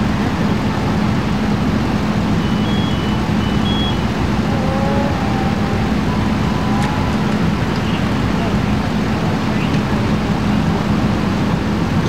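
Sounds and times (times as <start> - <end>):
diesel engine idling: 0.0 - 11.5.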